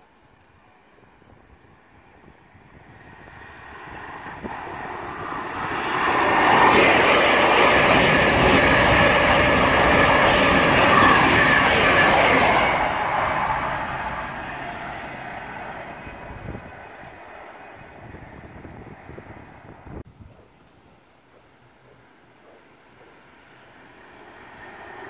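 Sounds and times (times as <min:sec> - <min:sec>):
passenger train passing: 0:00.6 - 0:25.0.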